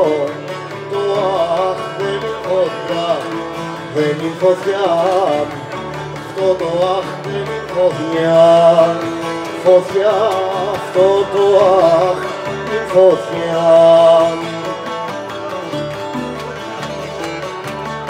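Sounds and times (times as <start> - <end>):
man singing wavering melody: 0.0 - 17.2
plucked lutes: 0.0 - 18.0.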